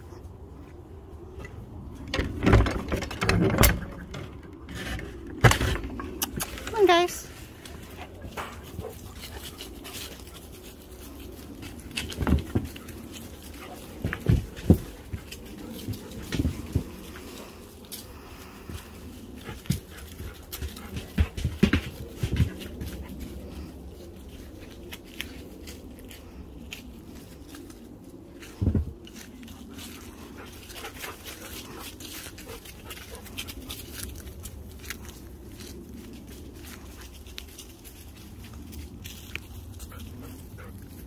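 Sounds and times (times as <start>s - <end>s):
dogs playing: 0.0s - 41.0s.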